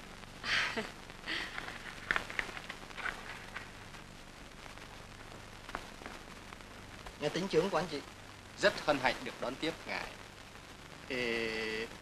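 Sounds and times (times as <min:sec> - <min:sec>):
film soundtrack hiss and crackle: 0:00.0 - 0:12.0.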